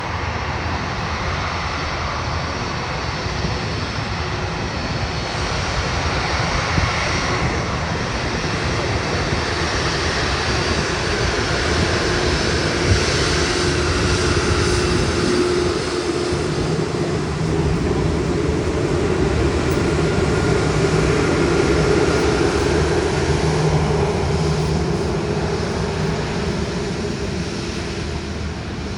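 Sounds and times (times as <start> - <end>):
jet engines rumbling and whining: 0.0 - 28.9.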